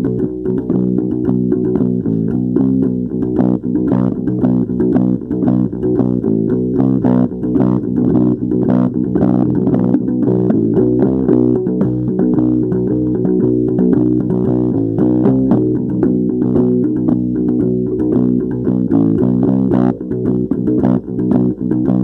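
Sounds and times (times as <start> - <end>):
bass guitar: 0.0 - 22.0
plucked guitar notes: 0.0 - 22.0.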